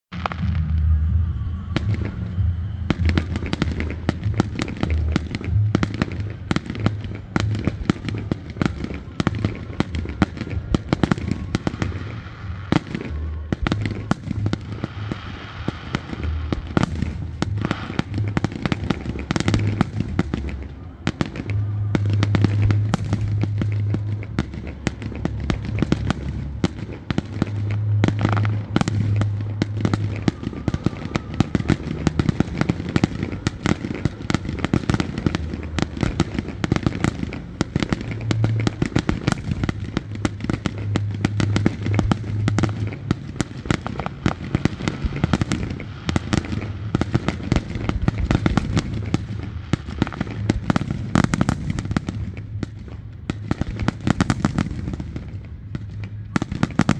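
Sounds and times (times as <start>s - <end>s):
fireworks bangs and crackles: 0.1s - 56.9s
low rumble: 0.1s - 56.9s.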